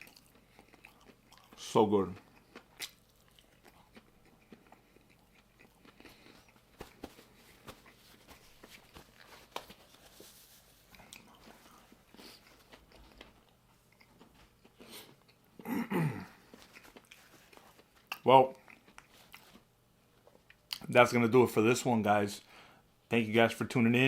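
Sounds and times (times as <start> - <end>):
person chewing: 0.0 - 20.9.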